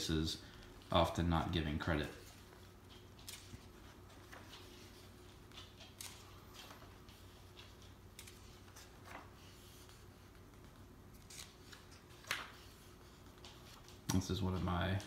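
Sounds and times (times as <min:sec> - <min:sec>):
book pages rustling and turning: 0:00.5 - 0:15.0.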